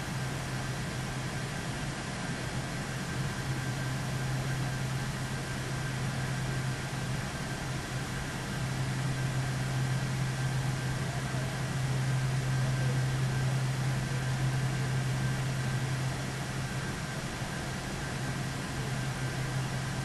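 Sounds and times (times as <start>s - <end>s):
faint high whine: 0.0s - 20.0s
low machine hum: 0.0s - 20.0s.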